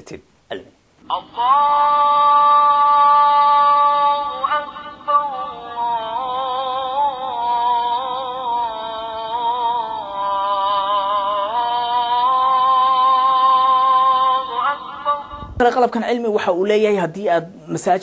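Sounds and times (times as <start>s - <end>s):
person singing call to prayer: 1.1s - 15.5s.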